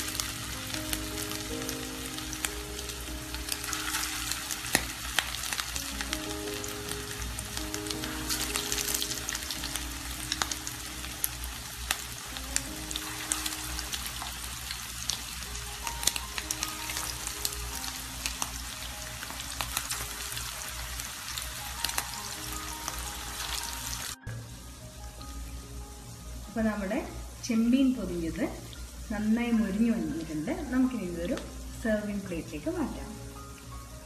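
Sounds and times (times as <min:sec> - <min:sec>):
patties sizzling in hot oil: 0:00.0 - 0:34.0.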